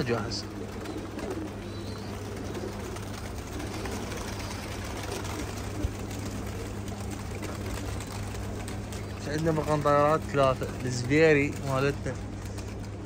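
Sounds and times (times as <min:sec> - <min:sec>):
pigeons cooing: 0:00.0 - 0:13.0
steady low hum: 0:00.0 - 0:13.0.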